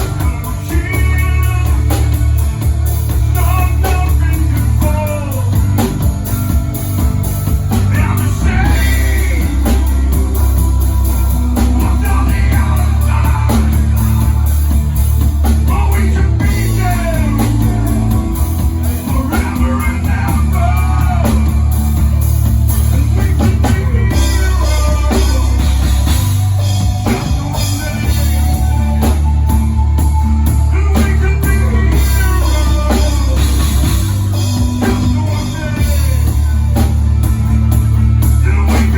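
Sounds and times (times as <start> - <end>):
drum kit: 0.0 - 38.9
electric guitar: 0.0 - 38.9
heavy bass line: 0.0 - 38.9
sung vocals: 0.0 - 38.9.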